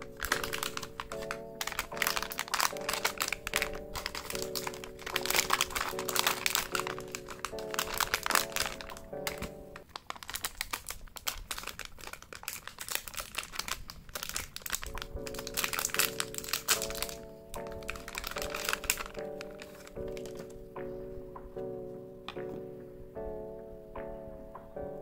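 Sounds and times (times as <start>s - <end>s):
plastic wrappers crinkling: 0.0s - 20.7s
background music: 0.0s - 25.0s.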